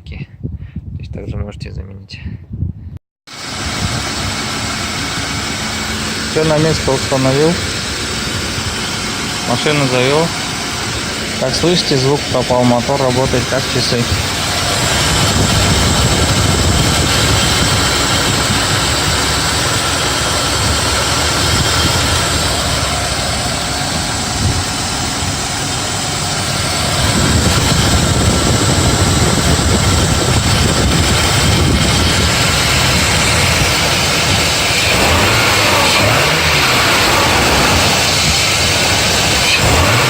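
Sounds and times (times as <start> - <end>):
car engine idling: 3.3 - 40.0.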